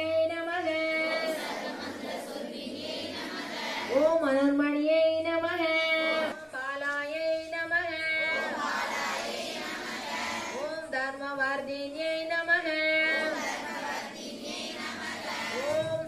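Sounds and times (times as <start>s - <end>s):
women singing: 0.0s - 16.0s.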